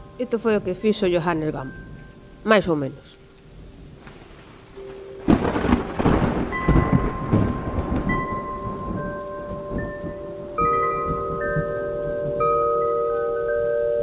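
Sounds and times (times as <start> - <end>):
bell-like tones: 0.0 - 3.2, 4.8 - 5.8, 6.5 - 14.0
thunder rumbling: 0.0 - 13.6
rain: 0.0 - 14.0.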